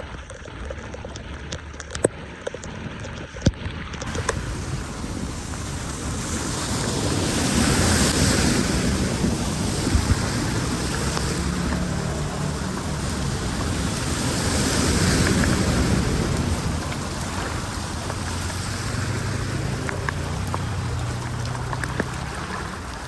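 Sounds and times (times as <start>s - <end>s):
water rushing into storm drain: 0.0s - 23.0s.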